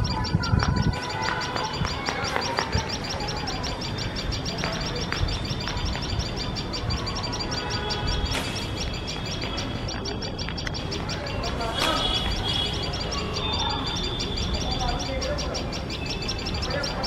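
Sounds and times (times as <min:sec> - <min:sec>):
birds giving shrill alarm calls: 0:00.0 - 0:17.0.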